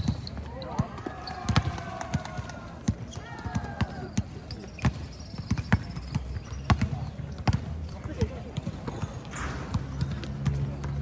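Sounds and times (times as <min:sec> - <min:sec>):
basketball bouncing on court: 0:00.0 - 0:11.0.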